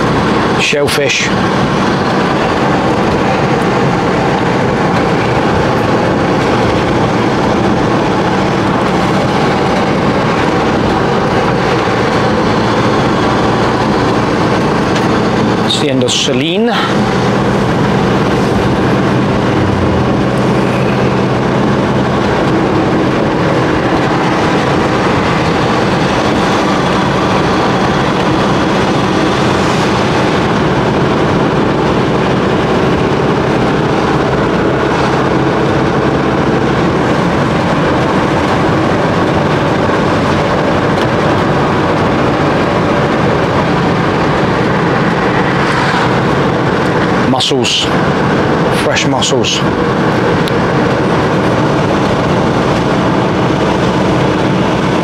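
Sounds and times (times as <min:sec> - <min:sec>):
engine drone: 0:00.0 - 0:55.0
road and tyre noise: 0:00.0 - 0:55.0.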